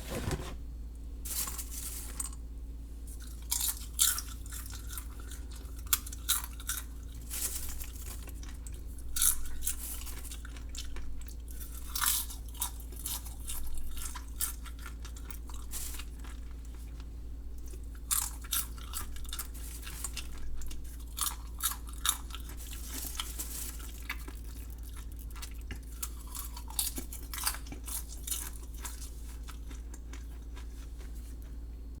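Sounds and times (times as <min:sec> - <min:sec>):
steady low hum: 0:00.0 - 0:32.0
person chewing popcorn: 0:01.3 - 0:32.0.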